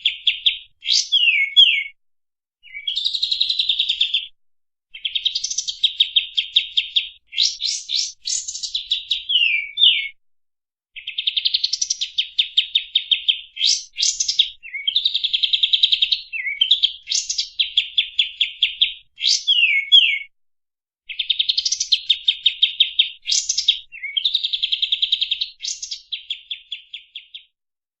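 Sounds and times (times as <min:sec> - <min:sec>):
songbird singing: 0:00.0 - 0:02.0, 0:02.6 - 0:04.3, 0:05.0 - 0:10.2, 0:11.0 - 0:20.3, 0:21.1 - 0:27.5.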